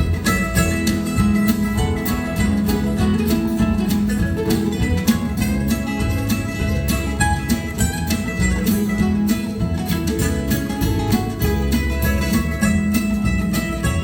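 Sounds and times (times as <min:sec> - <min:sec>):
acoustic band playing: 0:00.0 - 0:14.0
guitar strumming: 0:00.0 - 0:14.0
picked acoustic guitar: 0:00.0 - 0:14.0.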